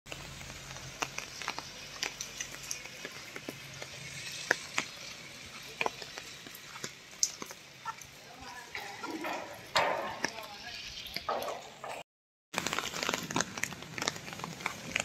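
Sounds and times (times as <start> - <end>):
light rain hissing: 0.1 - 11.9, 12.6 - 15.0
raindrops ticking: 0.1 - 12.0, 12.6 - 15.0.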